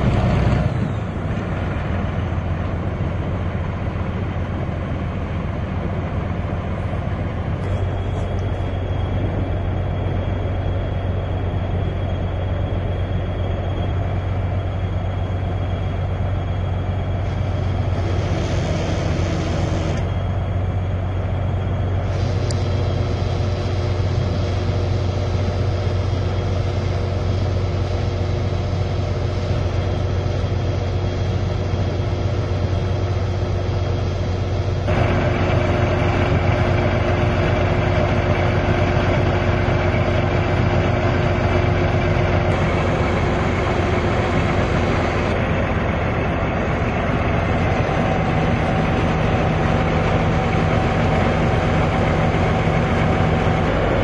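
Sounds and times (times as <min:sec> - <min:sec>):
large machine humming: 0:00.0 - 0:54.0.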